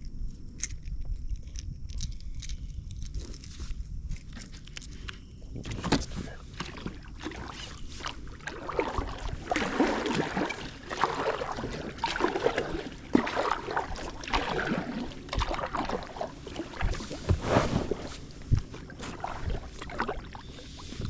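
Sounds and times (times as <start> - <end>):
water splashing around packraft: 4.1 - 21.0.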